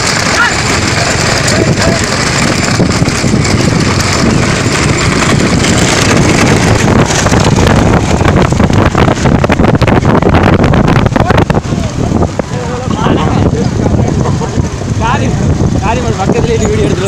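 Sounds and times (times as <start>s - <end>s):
rapid rattling strokes: 0.0s - 17.0s
vehicle running: 0.0s - 17.0s
wind on microphone: 0.0s - 17.0s.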